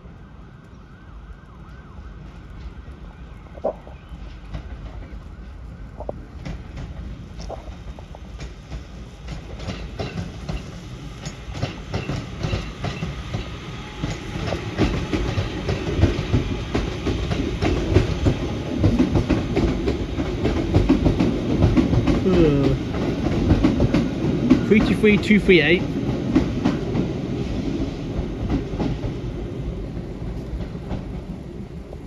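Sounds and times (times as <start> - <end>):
train running: 2.2 - 32.0
wheels clicking over rail joints: 2.2 - 32.0.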